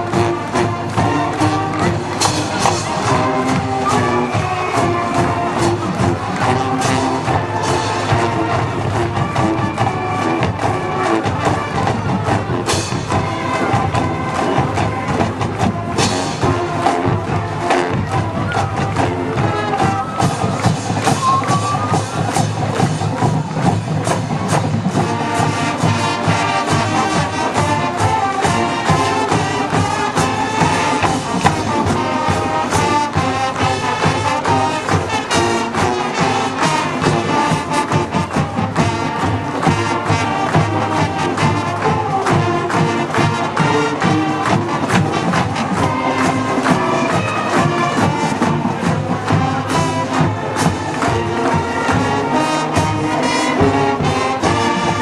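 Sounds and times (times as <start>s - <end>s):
marching band playing: 0.0s - 55.0s.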